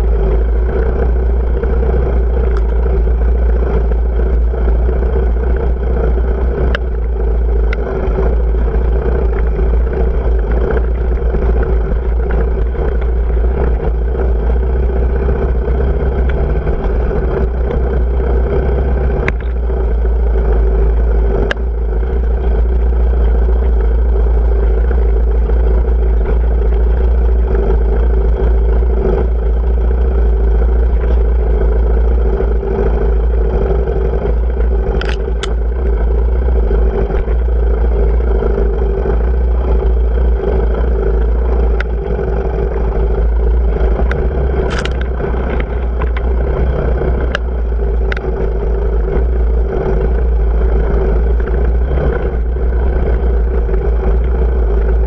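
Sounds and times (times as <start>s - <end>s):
heavy low rumble: 0.0s - 55.0s
off-road motorcycle engine: 0.0s - 55.0s.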